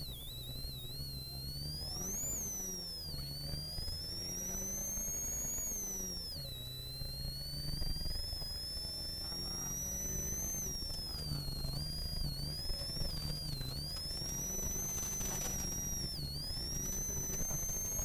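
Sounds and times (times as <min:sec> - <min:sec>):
car engine accelerating: 0:00.0 - 0:18.0
high-pitched turbo whine: 0:00.0 - 0:18.0.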